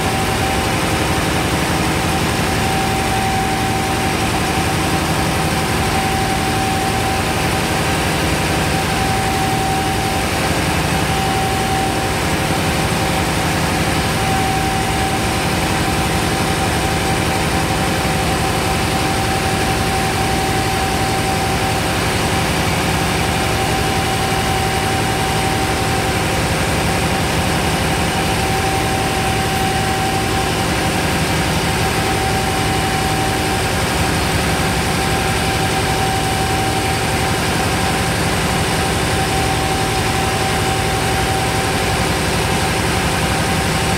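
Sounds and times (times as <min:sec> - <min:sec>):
compressor machine drone: 0:00.0 - 0:43.9
high whine: 0:00.0 - 0:43.9.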